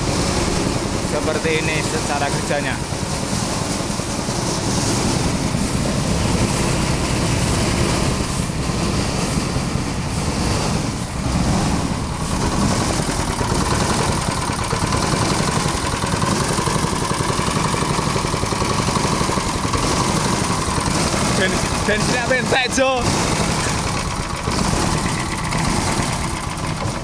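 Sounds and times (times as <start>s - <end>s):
small petrol engine running: 0.0s - 27.0s
thin steady whine: 0.0s - 27.0s.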